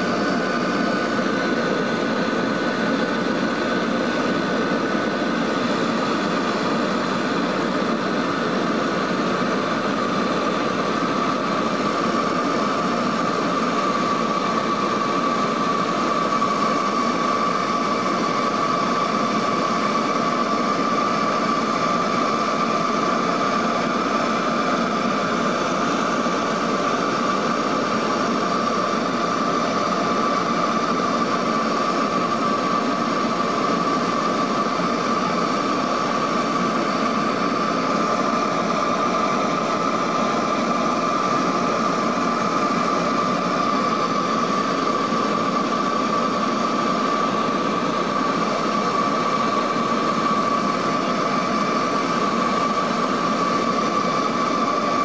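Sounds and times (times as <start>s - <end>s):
aircraft engine drone: 0.0s - 55.0s
high engine whine: 0.0s - 55.0s.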